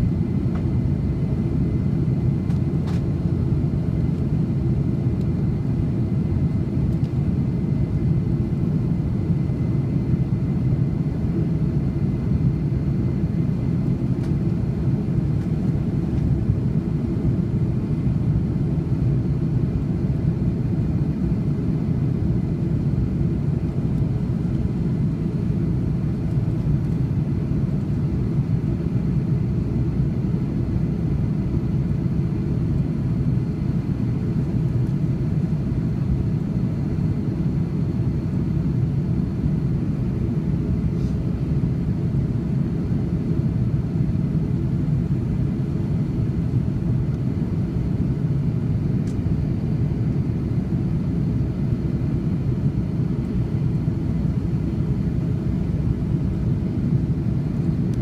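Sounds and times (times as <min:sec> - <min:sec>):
jet engines rumbling in cabin: 0:00.0 - 0:58.0.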